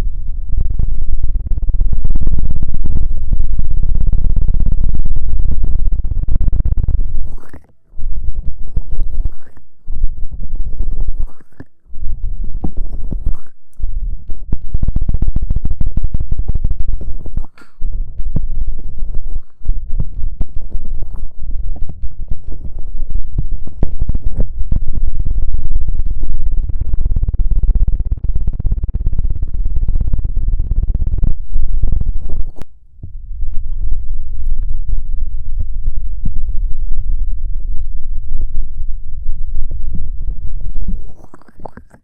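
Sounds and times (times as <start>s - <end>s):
scratching against microphone: 0.0s - 38.5s, 39.4s - 42.0s.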